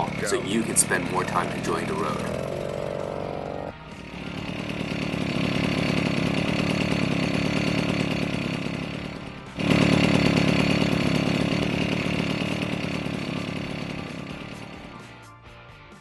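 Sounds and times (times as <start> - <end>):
two-stroke engine buzzing: 0.0 - 15.2.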